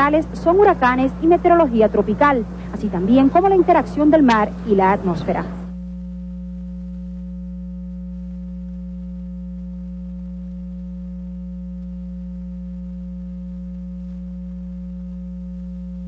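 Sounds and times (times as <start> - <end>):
faint buzz: 0.0 - 16.0
low electrical hum: 0.0 - 16.0.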